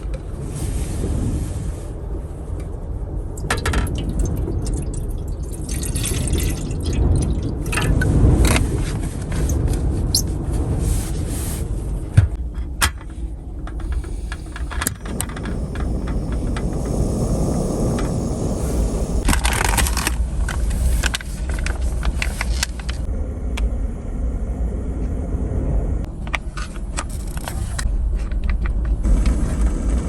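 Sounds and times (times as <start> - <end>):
wind buffeting a car: 0.0 - 30.0.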